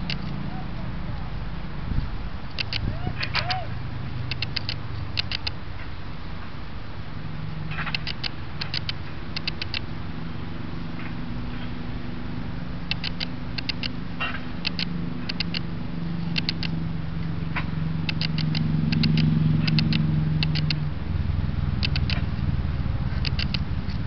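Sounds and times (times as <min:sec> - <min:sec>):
road traffic hum: 0:00.0 - 0:24.0
vehicle passing: 0:00.0 - 0:24.0.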